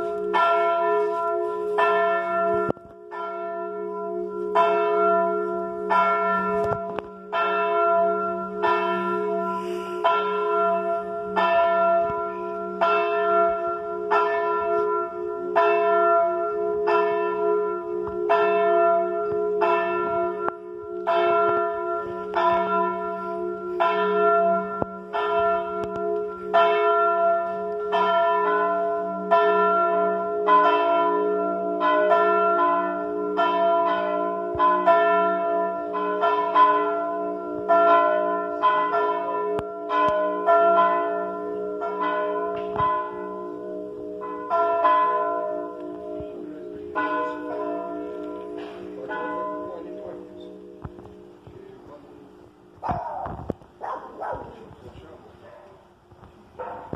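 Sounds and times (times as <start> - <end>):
low hum of ringing bells: 0.0 - 52.8
church bells ringing: 0.0 - 53.1, 53.7 - 55.6, 56.6 - 56.9.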